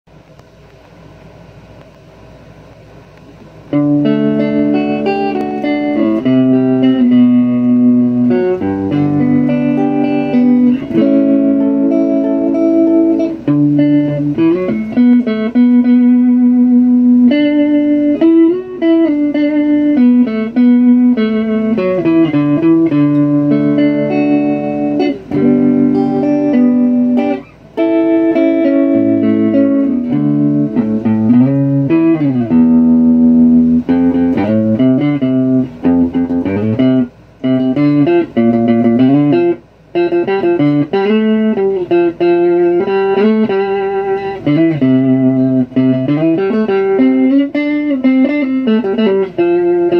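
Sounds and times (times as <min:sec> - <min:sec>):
electric guitar melody: 0:02.6 - 0:49.9.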